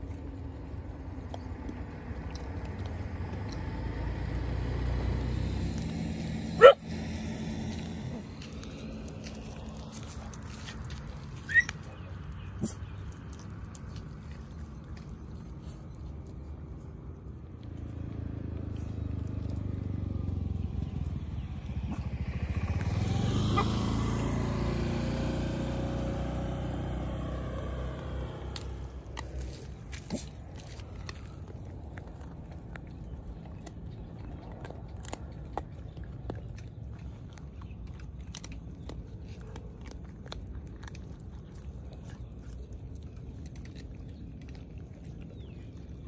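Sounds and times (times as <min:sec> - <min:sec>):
dogs crunching dry food: 0:00.0 - 0:23.7, 0:25.1 - 0:46.0
motor scooter passing: 0:01.8 - 0:14.8, 0:17.0 - 0:46.0.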